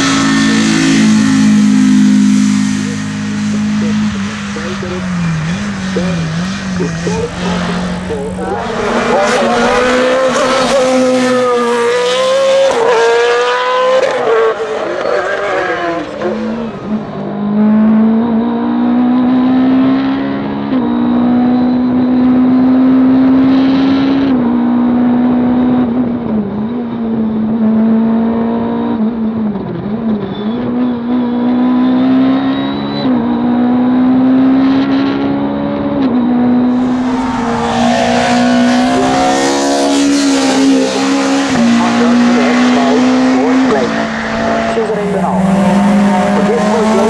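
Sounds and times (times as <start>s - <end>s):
racing car engine at full throttle: 0.0s - 47.0s.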